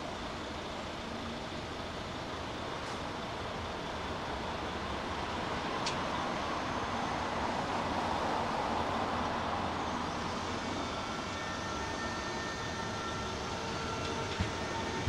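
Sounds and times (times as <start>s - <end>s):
faint steady whines: 0.0s - 15.0s
train rumbling on rails: 0.0s - 15.0s.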